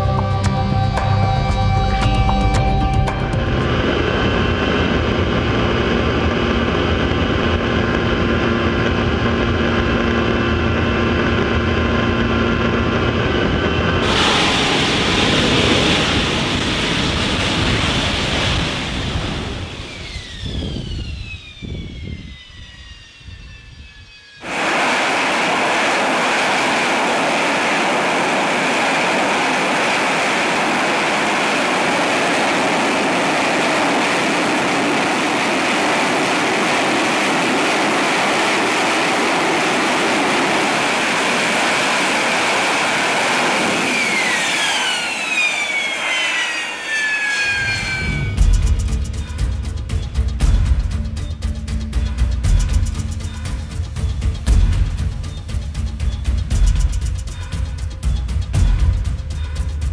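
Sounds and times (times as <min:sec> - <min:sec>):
jet engine whine falling in pitch: 0:00.0 - 0:59.9
loud steady jet noise: 0:00.0 - 0:59.9.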